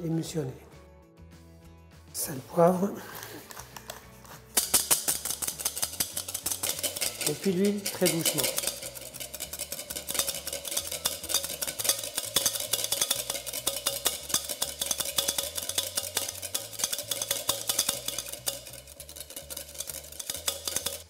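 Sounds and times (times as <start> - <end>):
whisk beating in a bowl: 3.7 - 21.0.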